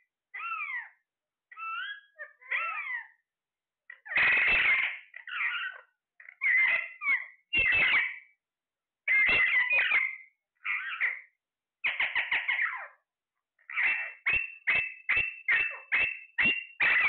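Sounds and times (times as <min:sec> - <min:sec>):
parrot squawking: 0:00.4 - 0:03.2, 0:03.9 - 0:08.3, 0:09.1 - 0:13.0, 0:13.6 - 0:17.0.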